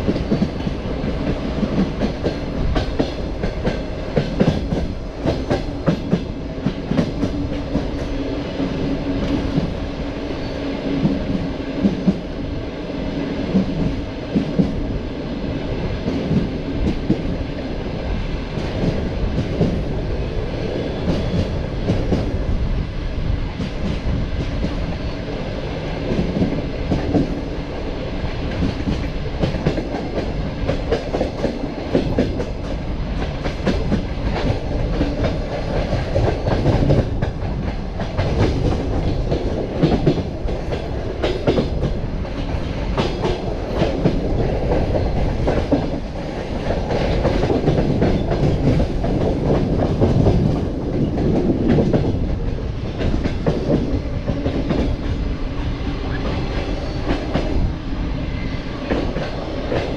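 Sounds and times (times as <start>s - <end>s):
train wheels clattering on track: 0.0s - 22.5s, 23.5s - 59.9s
train rolling rumble: 0.0s - 59.9s.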